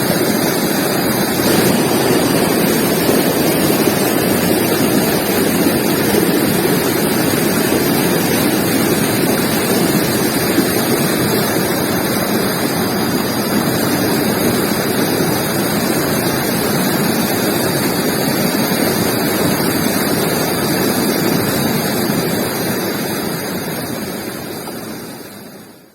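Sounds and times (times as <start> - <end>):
river water rushing: 0.0 - 25.6.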